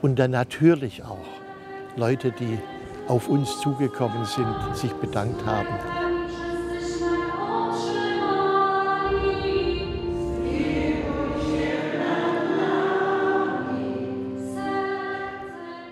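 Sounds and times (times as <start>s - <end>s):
choir singing held notes: 1.4s - 15.9s.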